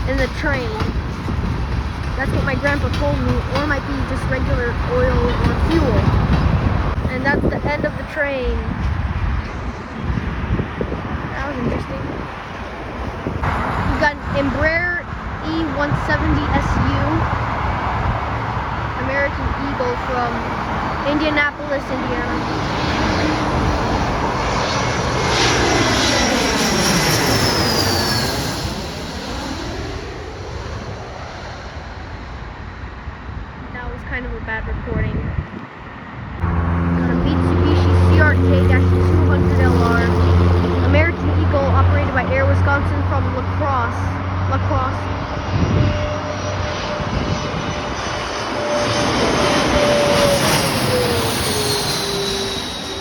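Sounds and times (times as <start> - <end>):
jet engine whine: 0.0 - 53.0
jet engines rumbling: 0.0 - 53.0.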